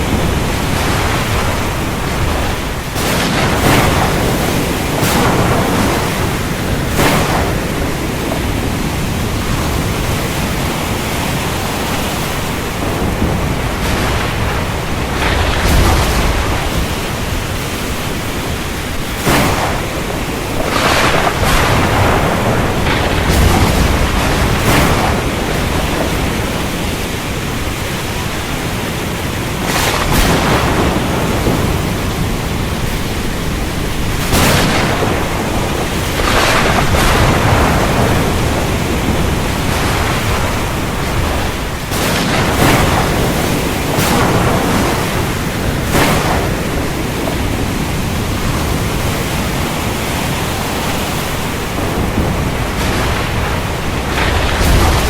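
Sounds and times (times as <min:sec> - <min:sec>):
heavy rain hissing: 0:00.0 - 0:55.0
thunder cracks: 0:00.0 - 0:55.0.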